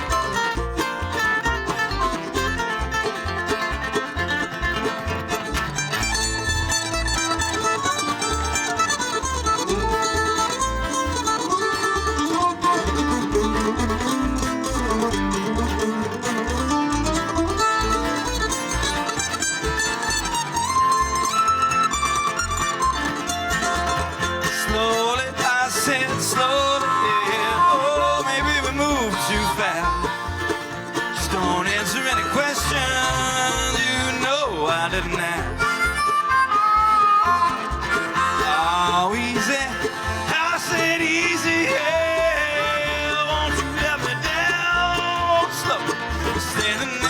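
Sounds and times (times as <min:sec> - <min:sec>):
bass notes: 0:00.0 - 0:47.0
plucked strings melody: 0:00.0 - 0:47.0
sliding lead guitar line: 0:00.0 - 0:47.0
strummed accompaniment: 0:00.0 - 0:47.0.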